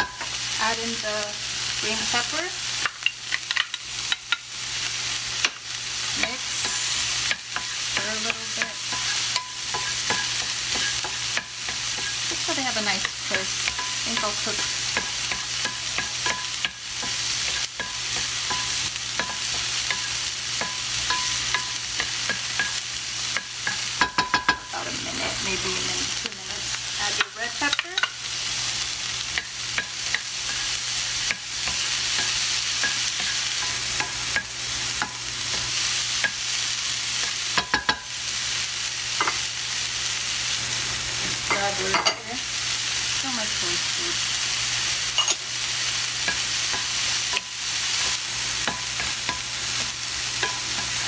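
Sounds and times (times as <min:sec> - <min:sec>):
vegetables sizzling in oil: 0:00.0 - 0:51.0.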